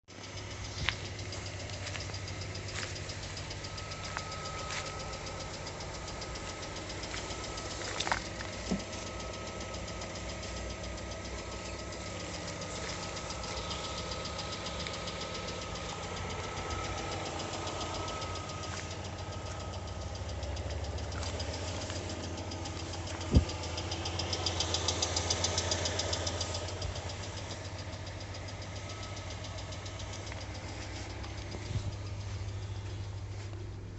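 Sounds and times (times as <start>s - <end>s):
car engine knocking tick: 0.1s - 33.9s.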